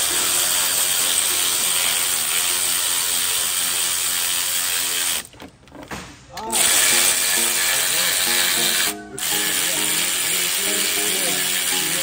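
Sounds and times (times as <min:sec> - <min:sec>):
electric ratchet spinning bolt: 0:00.0 - 0:05.4, 0:06.5 - 0:12.0.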